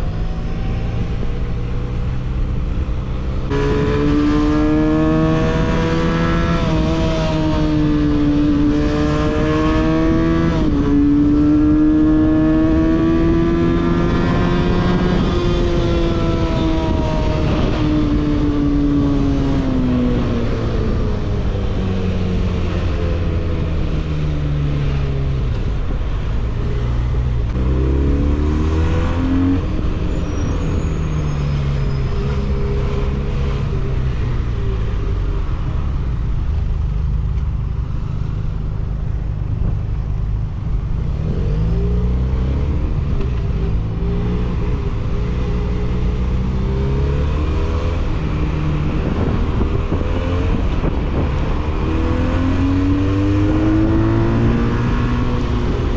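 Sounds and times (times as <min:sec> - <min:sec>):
motorcycle engine revving: 0:00.0 - 0:19.0, 0:27.0 - 0:34.3, 0:37.2 - 0:55.9.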